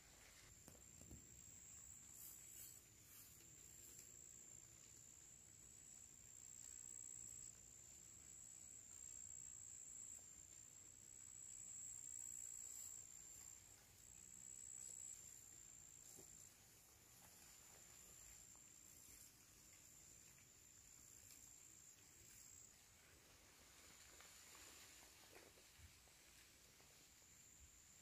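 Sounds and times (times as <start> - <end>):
crickets trilling: 0.2 - 28.0.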